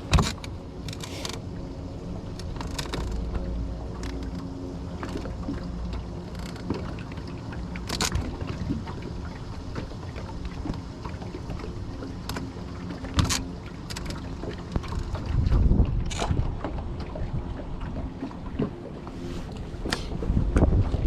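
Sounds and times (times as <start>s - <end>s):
steady low hum: 0.0s - 21.0s
wind rumbling on microphone: 0.0s - 21.0s.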